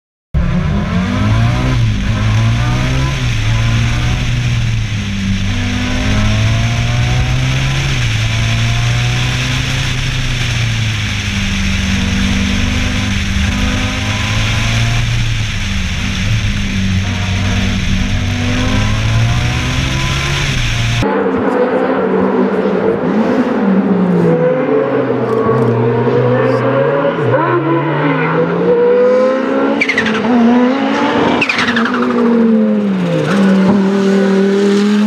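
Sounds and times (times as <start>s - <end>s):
race car engine under load: 0.4s - 28.0s, 28.7s - 35.0s.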